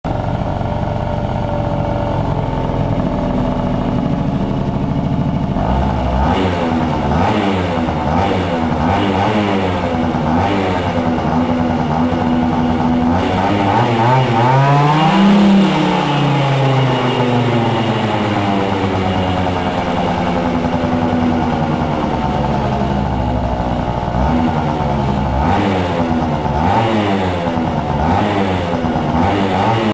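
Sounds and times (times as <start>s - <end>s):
scooter engine revving: 0.1s - 29.9s.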